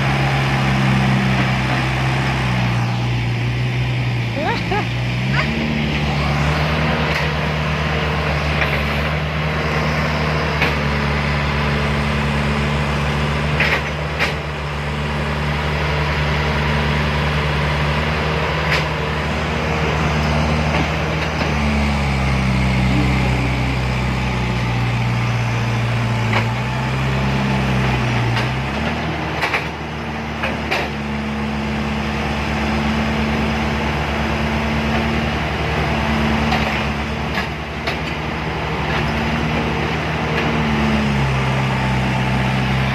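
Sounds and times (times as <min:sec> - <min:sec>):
heavy diesel engines under load: 0:00.0 - 0:42.9.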